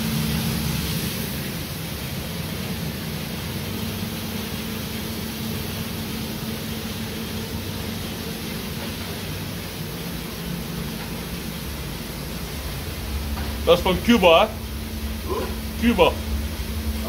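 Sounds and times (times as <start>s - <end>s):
cooling tray machine hum: 0.0s - 17.0s.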